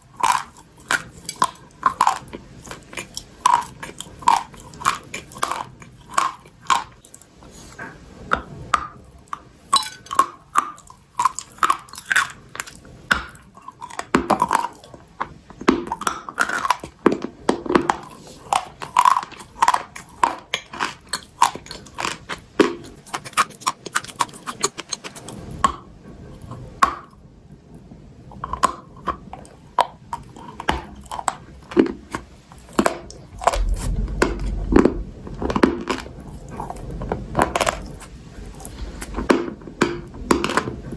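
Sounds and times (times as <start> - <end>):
crunchy chewing: 0.0 - 8.5, 9.2 - 27.2, 28.2 - 40.9.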